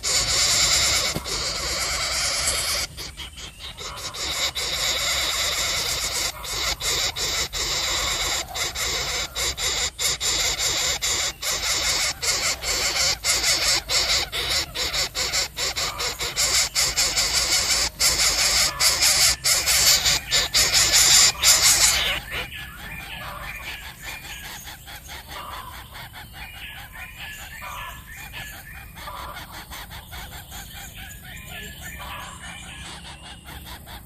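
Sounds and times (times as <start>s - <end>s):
bird giving harsh hissing rasp: 0.0s - 27.0s, 27.7s - 30.8s, 32.0s - 34.0s.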